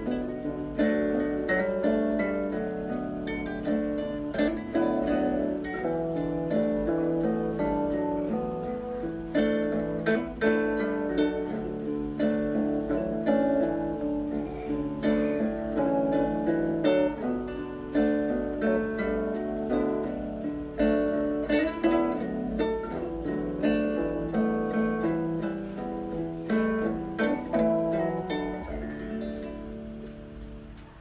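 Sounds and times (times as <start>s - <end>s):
acoustic guitar plucking: 0.0s - 31.0s.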